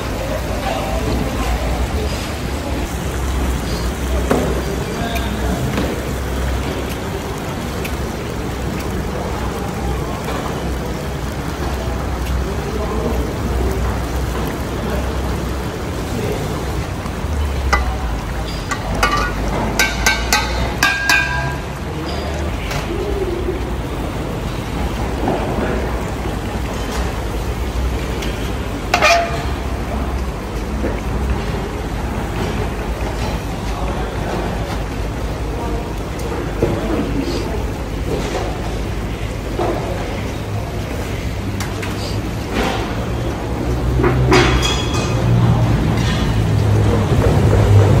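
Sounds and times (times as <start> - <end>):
liquid bubbling in a wok: 0.0 - 48.0.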